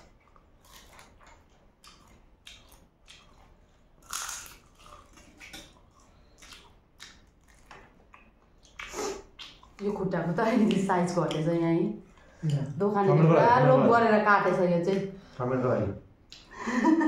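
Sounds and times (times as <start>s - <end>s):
people chewing and slurping noodles: 0.0s - 13.9s.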